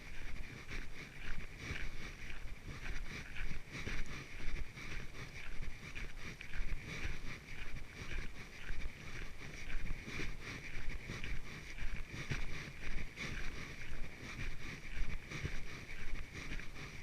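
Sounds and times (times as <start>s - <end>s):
footsteps on a trail: 0.0s - 17.0s.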